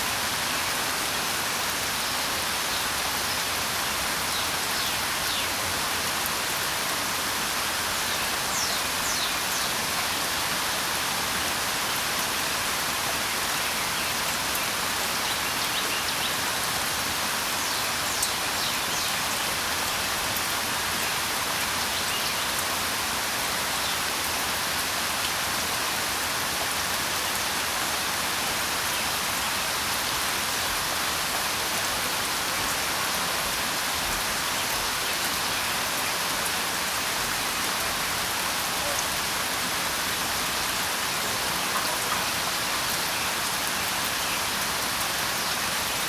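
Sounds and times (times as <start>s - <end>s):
steady rain hissing: 0.0s - 46.0s.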